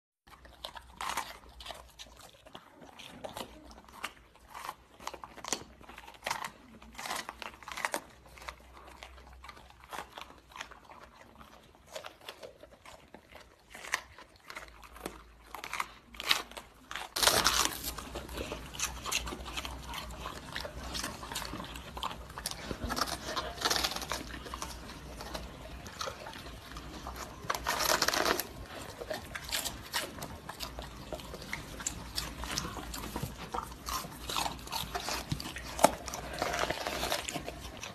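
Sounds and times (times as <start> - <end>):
puppies crunching vegetables: 0.3 - 37.9
puppies tearing cabbage leaves: 0.3 - 37.9.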